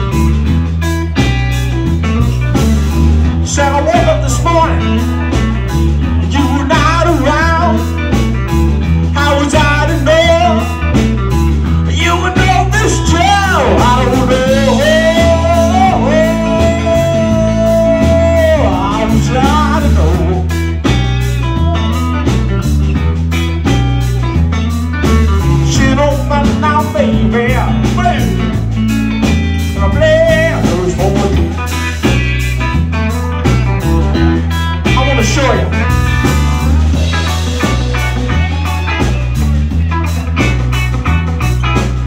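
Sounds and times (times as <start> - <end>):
bass line: 0.0 - 42.0
drums: 0.0 - 42.0
electric guitar solo: 0.0 - 42.0.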